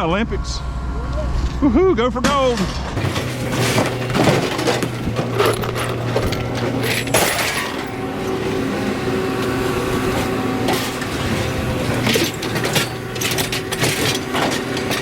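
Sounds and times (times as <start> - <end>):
diesel engine running: 0.0 - 15.0
scrap metal clanking and crashing: 2.2 - 15.0.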